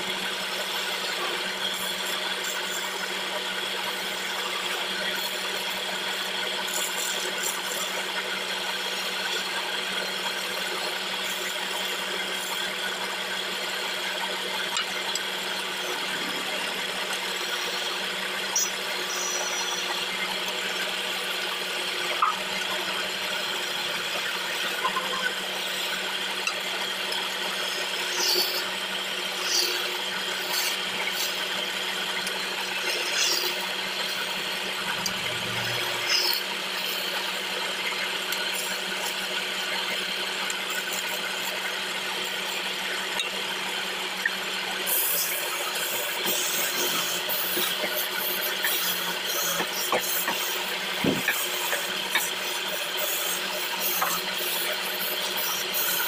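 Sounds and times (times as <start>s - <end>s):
chisel shaving spinning wood: 0.0s - 56.0s
wood lathe humming: 0.0s - 56.0s.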